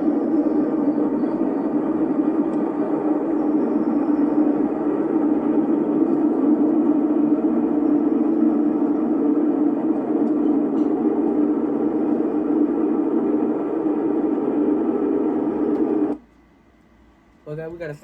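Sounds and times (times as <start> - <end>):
loud steady rushing noise: 0.0 - 16.2.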